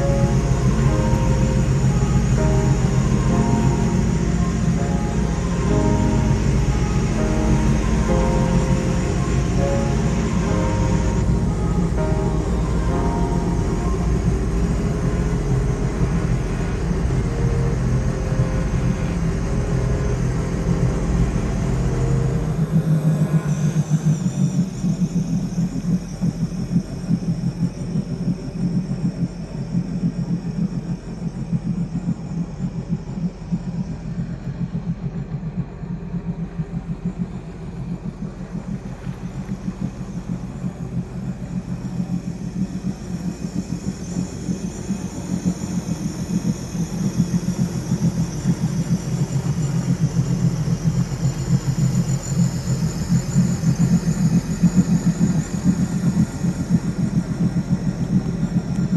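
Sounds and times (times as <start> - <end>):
boat engine rumbling: 0.0 - 58.9.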